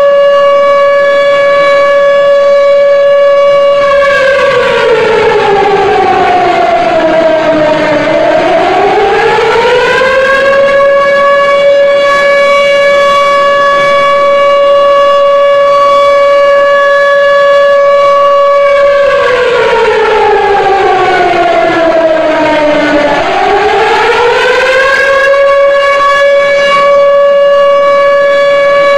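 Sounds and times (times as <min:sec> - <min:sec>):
siren wailing: 0:00.0 - 0:28.9.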